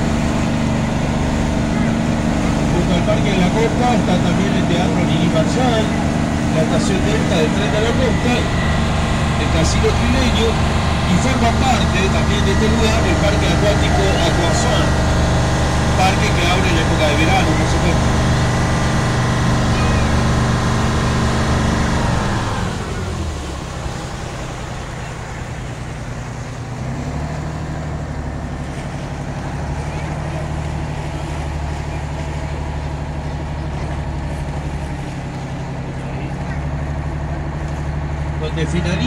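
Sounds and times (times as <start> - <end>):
boat engine drone: 0.0 - 39.0.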